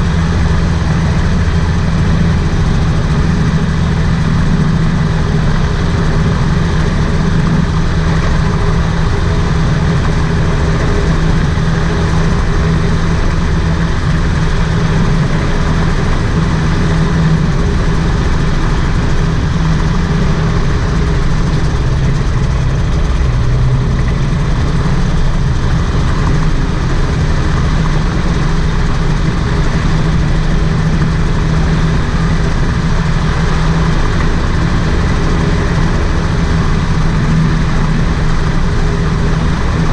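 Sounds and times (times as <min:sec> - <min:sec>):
two-stroke aircraft engine running: 0:00.0 - 0:39.9.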